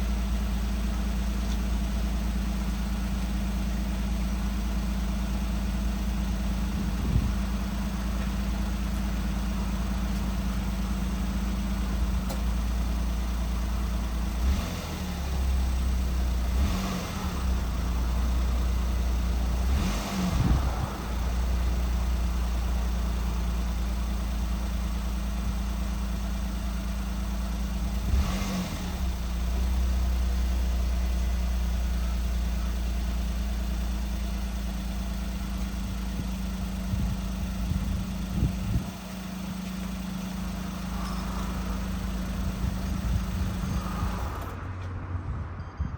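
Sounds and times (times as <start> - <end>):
car engine idling: 0.0 - 45.0
engine throttle blips: 4.2 - 45.9.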